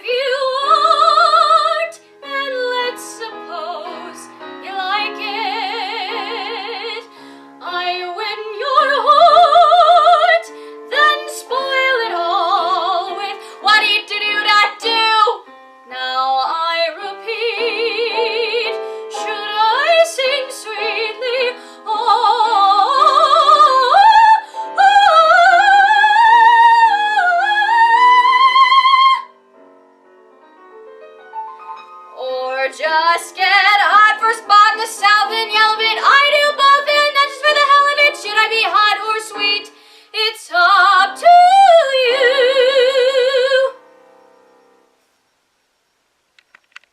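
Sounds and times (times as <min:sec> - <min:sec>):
woman singing operatically: 0:00.0 - 0:29.3, 0:32.2 - 0:43.8
piano accompaniment: 0:00.0 - 0:45.0.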